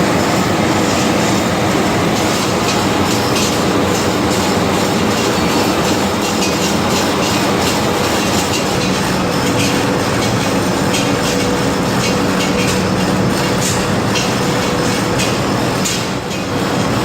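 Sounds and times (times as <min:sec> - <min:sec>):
machine din with hum: 0:00.0 - 0:17.0
short machine rattles: 0:00.1 - 0:17.0.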